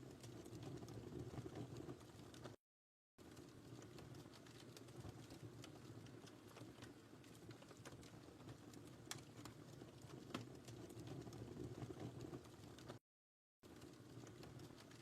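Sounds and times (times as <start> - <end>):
wood fire crackling: 0.0 - 2.6, 3.2 - 13.0, 13.6 - 15.0.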